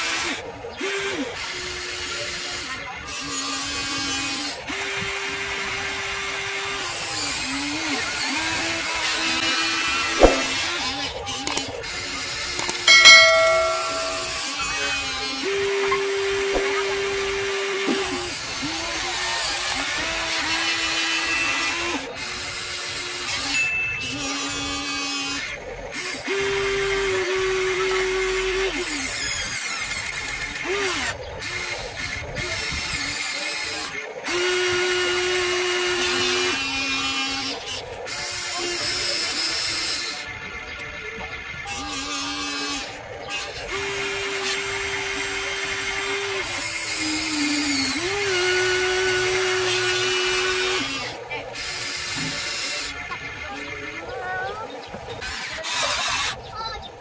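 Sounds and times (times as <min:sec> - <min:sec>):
toy excavator motors whining: 0:00.0 - 0:10.2, 0:10.8 - 0:13.6, 0:14.6 - 0:57.0.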